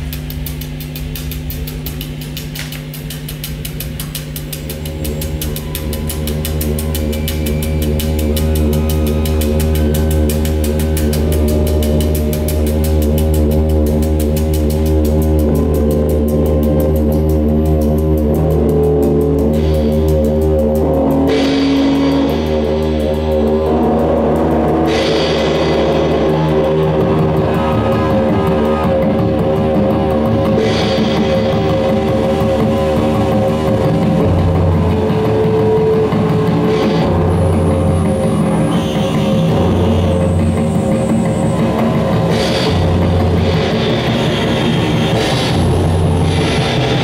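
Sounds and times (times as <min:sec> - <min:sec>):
distorted drone of sustained tones: 0:00.0 - 0:47.0.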